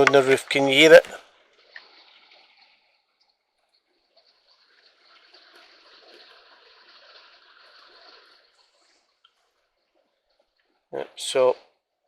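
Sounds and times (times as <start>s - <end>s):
rain on a vehicle roof: 1.5s - 11.3s.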